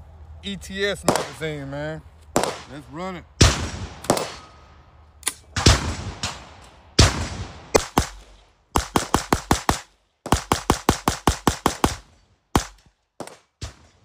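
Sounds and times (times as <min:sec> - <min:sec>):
pistol gunshots with echo: 0:01.0 - 0:01.6, 0:02.4 - 0:04.7, 0:05.5 - 0:14.0.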